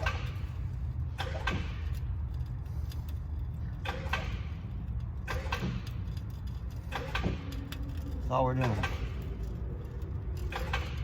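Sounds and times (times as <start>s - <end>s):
engine rumble: 0.0s - 11.0s
metallic clinking and rattling: 0.0s - 11.0s.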